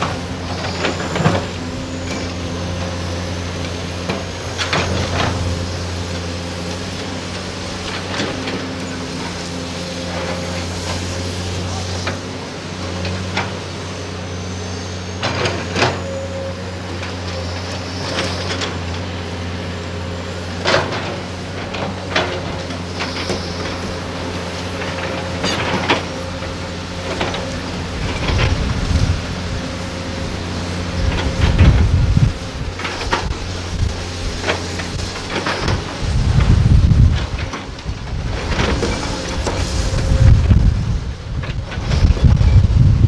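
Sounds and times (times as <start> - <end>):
excavator diesel engines: 0.0 - 43.0.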